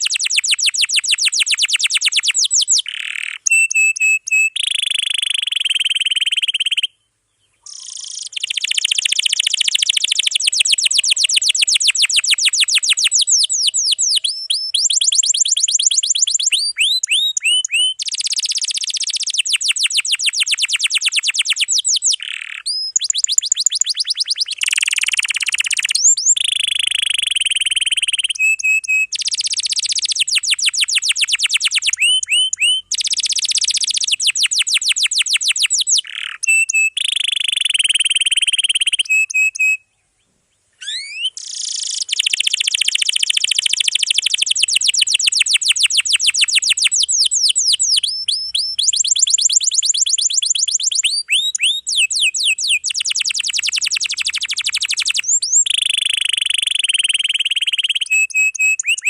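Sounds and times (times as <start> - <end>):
canary singing rolling trills: 0.0 - 40.2, 40.8 - 59.0.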